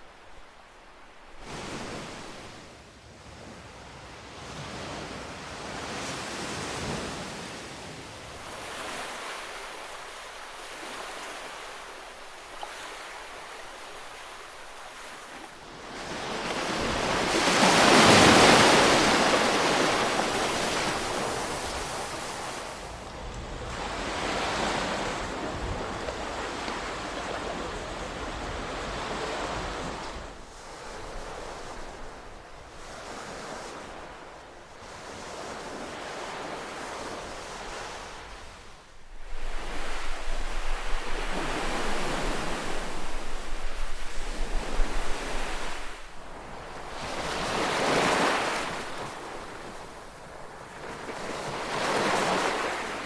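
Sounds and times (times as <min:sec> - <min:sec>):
ocean waves washing ashore: 0:00.0 - 0:53.0.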